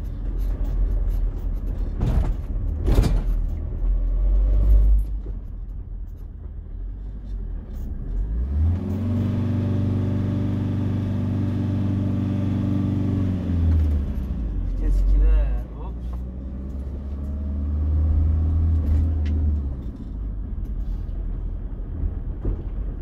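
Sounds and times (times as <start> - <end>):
van engine rumbling: 0.0 - 23.0.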